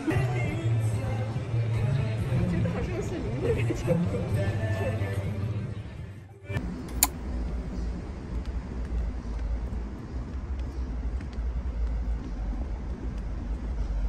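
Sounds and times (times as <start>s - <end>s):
street ambience rumble: 0.0s - 14.0s.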